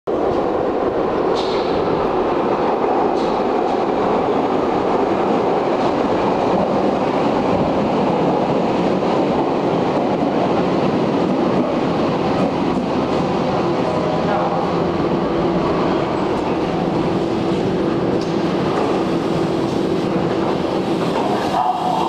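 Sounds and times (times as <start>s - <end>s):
train pulling into station: 0.1s - 22.0s.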